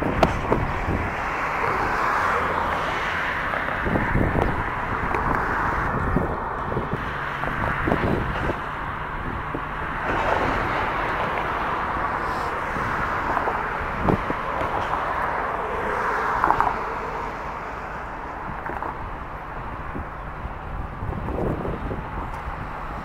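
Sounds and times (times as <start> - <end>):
distant traffic: 0.0 - 23.0
rail yard activity: 0.0 - 23.0
wind on microphone: 0.0 - 23.0.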